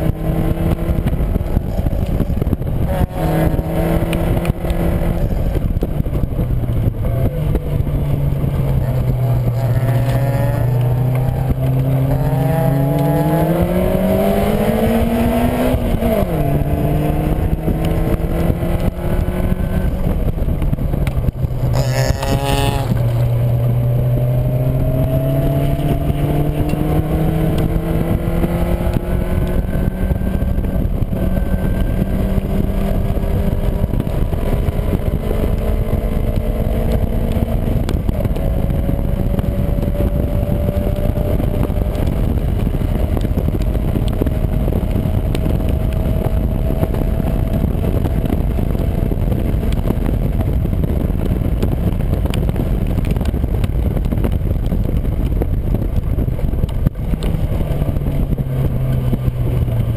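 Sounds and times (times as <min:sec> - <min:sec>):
car engine revving: 0:00.0 - 0:54.2
heavy wind noise: 0:00.0 - 0:59.9.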